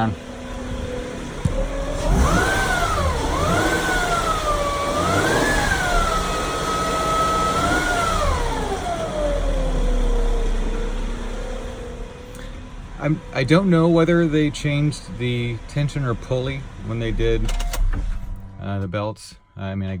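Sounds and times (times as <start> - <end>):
car engine revving: 0.0 - 19.4
engine whine: 0.0 - 19.7.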